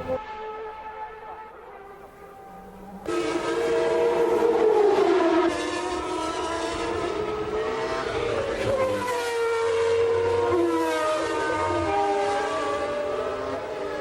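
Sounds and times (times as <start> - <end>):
racing car engine at high revs: 0.0 - 14.0.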